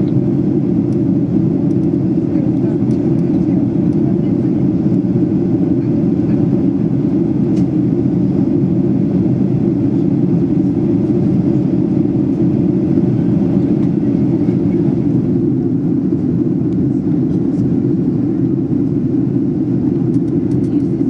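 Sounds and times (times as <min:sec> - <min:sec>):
air rushing along fuselage: 0:00.0 - 0:21.0
airplane cabin engine drone: 0:00.0 - 0:21.0.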